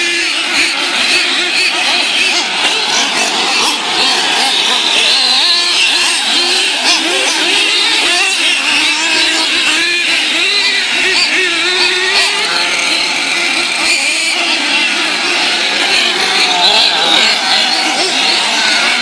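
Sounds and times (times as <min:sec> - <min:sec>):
small racing engines revving: 0:00.0 - 0:19.0.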